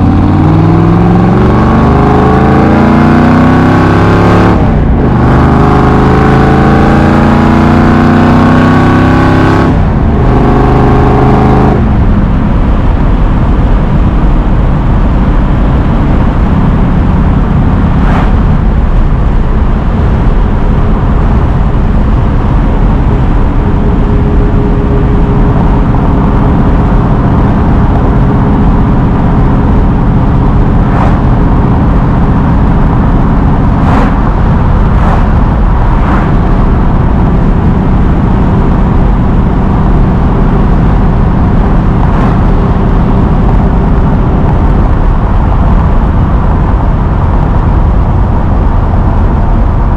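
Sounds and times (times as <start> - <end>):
car engine accelerating: 0.0 - 49.9.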